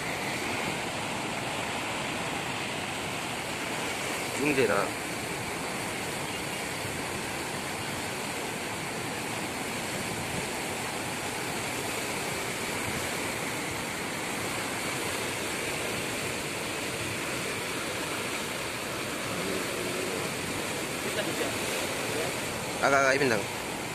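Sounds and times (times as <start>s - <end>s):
water rushing over weir: 0.0s - 23.9s.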